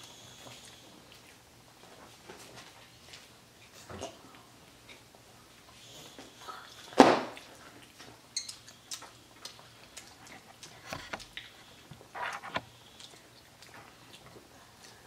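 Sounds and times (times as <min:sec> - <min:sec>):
children chewing with mouth clicks: 0:00.0 - 0:15.0.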